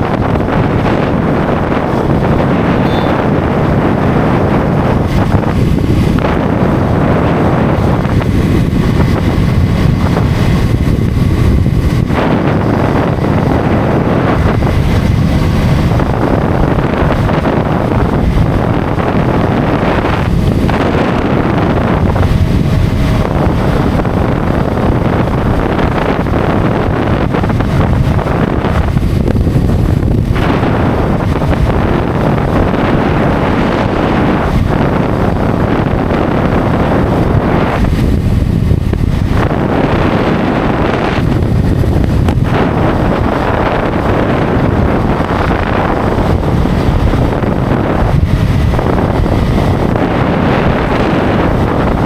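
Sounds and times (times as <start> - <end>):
motorcycle engine: 0.0 - 52.0
wind noise on microphone: 0.0 - 52.0.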